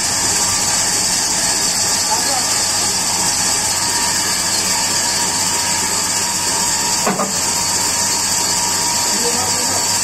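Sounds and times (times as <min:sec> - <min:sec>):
band saw running: 0:00.0 - 0:10.0.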